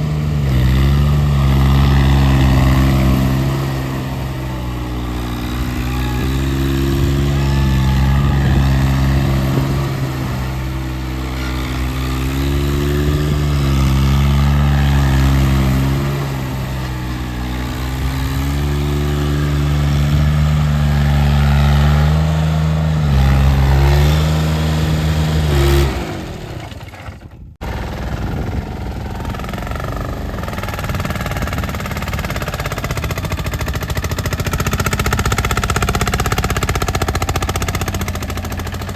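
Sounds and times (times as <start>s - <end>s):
diesel tractor engine revving: 0.0s - 38.9s
rough uneven engine noise: 0.0s - 38.9s.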